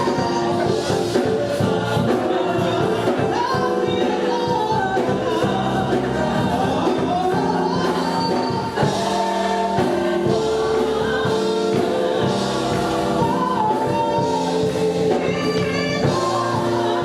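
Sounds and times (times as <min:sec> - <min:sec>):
gospel choir singing: 0:00.0 - 0:17.0
instrumental accompaniment: 0:00.0 - 0:17.0.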